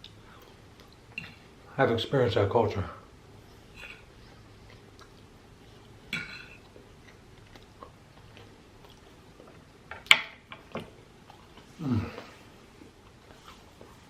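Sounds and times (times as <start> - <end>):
quiet chewing: 0.0 - 1.6, 3.3 - 9.9, 10.8 - 14.0.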